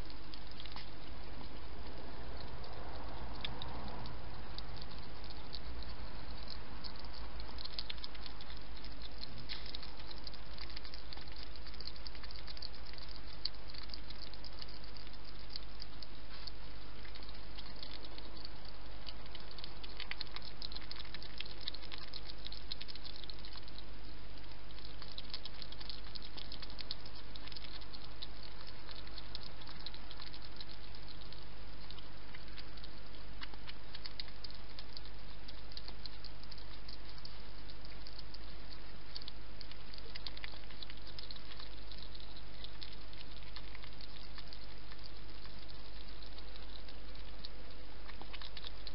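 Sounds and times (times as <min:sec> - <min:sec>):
hedgehog eating wet clicks: 0:00.0 - 0:48.9.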